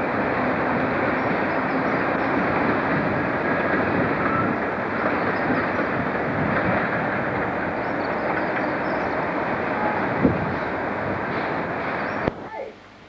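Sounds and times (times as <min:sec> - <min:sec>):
train wheels on rails: 0:00.0 - 0:12.4.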